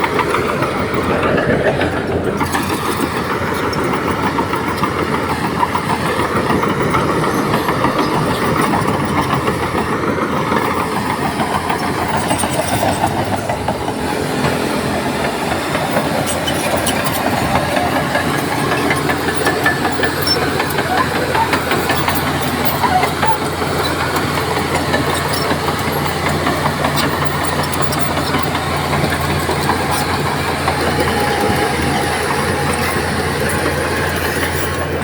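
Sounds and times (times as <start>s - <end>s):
bulldozer diesel engine running: 0.0s - 35.0s
steel tracks clanking: 0.0s - 35.0s.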